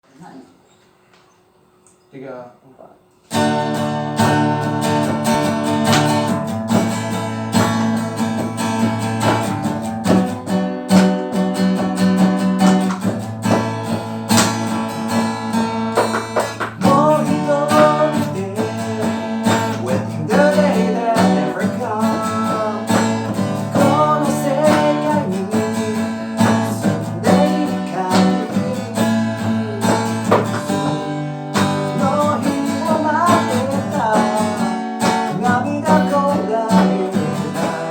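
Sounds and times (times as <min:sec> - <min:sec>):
guitar chords: 0:03.3 - 0:37.9
steady drum beat: 0:03.4 - 0:37.9.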